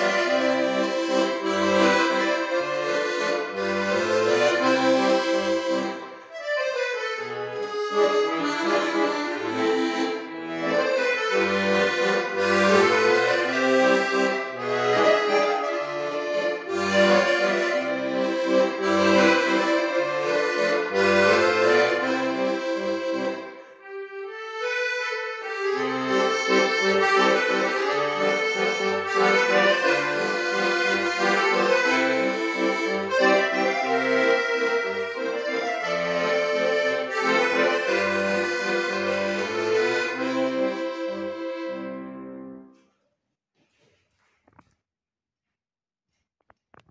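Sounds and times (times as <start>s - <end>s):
piano accordion melody: 0.0s - 42.8s.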